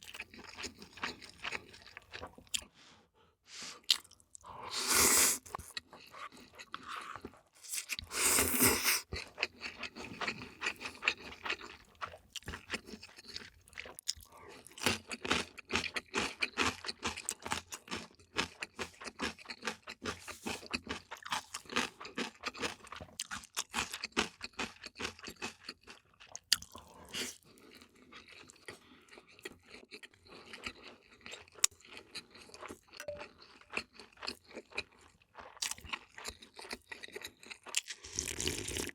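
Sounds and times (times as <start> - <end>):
person chewing crunchy food: 0.0 - 2.8, 3.7 - 38.9.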